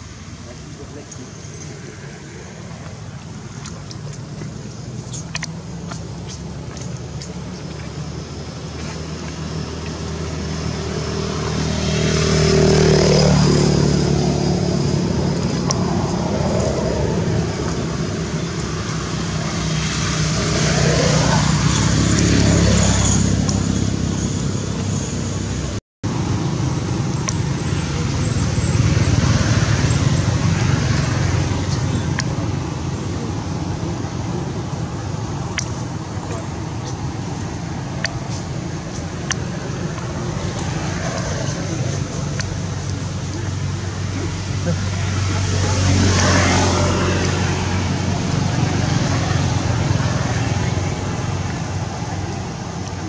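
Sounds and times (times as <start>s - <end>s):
vehicles passing on road: 0.0s - 53.0s.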